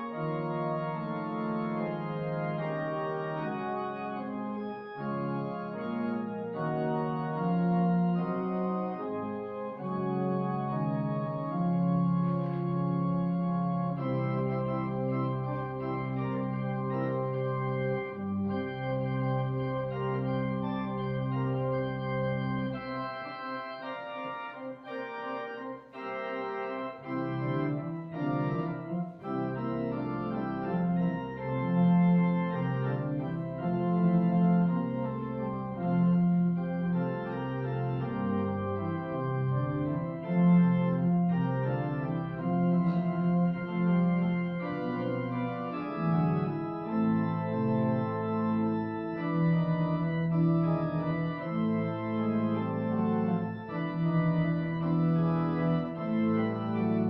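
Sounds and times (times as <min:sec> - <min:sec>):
church organ chords: 0:00.0 - 0:57.0
organ bass line: 0:00.0 - 0:57.0.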